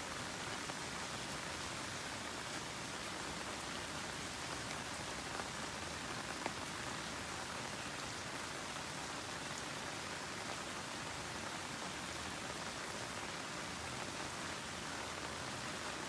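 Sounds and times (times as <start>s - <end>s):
rain on leafy plants: 0.0s - 16.0s.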